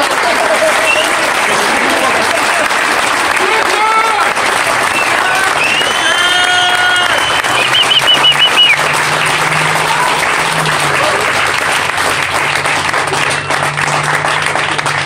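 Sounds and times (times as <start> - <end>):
crowd clapping: 0.0 - 15.0.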